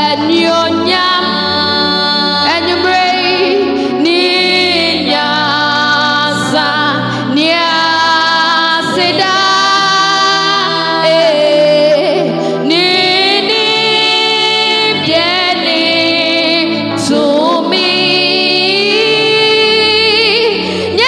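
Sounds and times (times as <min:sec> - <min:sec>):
women singing gospel song: 0:00.0 - 0:21.0.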